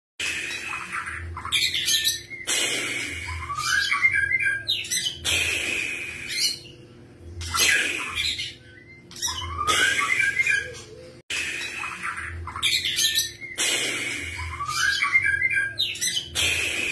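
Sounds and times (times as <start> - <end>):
bird singing whistles and rasps: 0.2 - 6.8, 7.4 - 16.9.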